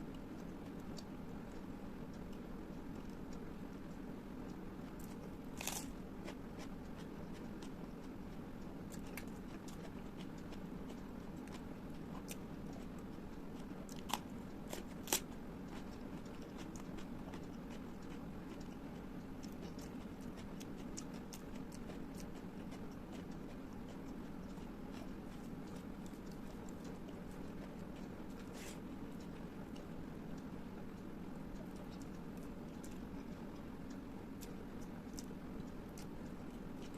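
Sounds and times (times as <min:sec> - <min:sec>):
low background hum: 0:00.0 - 0:36.9
chewing with wet clicks: 0:00.1 - 0:36.9.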